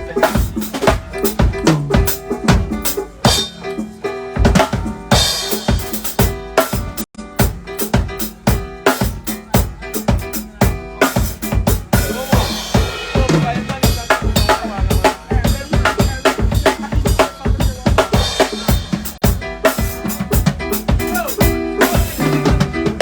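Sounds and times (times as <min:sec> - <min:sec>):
loud drum-driven music: 0:00.0 - 0:23.0.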